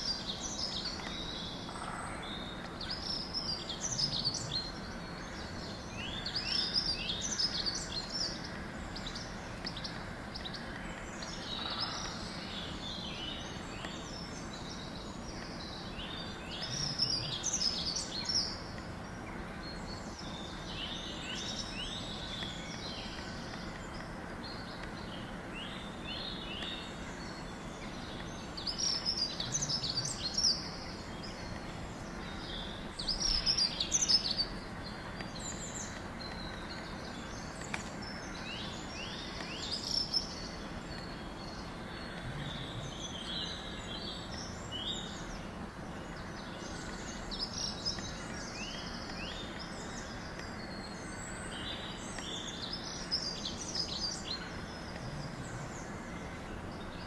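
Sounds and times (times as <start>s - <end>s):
outdoor background hiss: 0.0s - 57.0s
small birds chirping: 0.0s - 57.0s.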